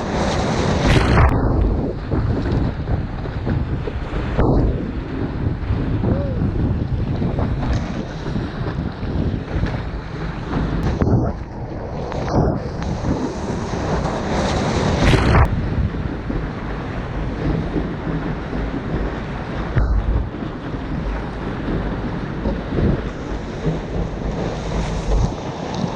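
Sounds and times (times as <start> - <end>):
ocean surf: 0.0 - 25.9
wind buffeting the microphone: 0.0 - 25.9.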